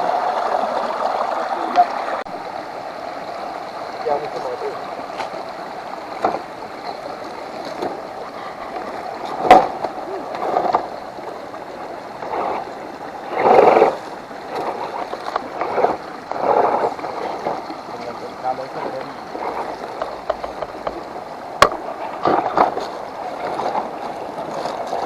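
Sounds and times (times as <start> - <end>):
water splashing and gurgling: 0.0 - 25.0.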